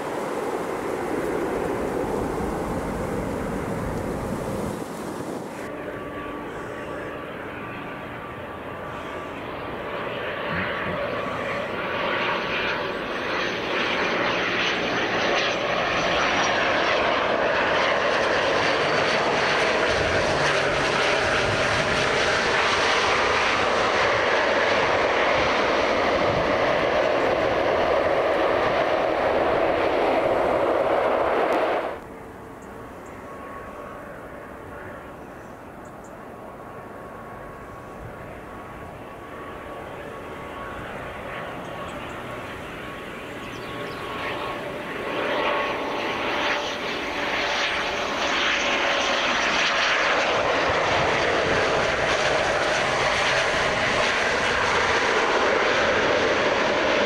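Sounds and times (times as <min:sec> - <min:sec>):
high engine whine: 0:00.0 - 0:57.0
jet engines roaring: 0:00.0 - 0:57.0.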